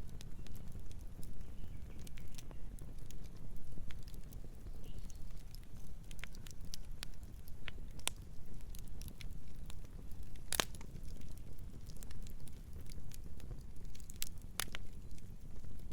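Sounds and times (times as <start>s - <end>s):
burning wood crackling and popping: 0.0s - 15.9s
low rumble of flames: 0.0s - 15.9s.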